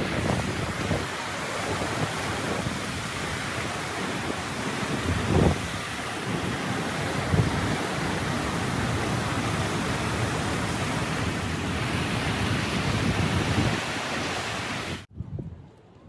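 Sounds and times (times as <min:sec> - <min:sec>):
water gushing through sluice: 0:00.0 - 0:15.1
wind bump on microphone: 0:00.0 - 0:16.0.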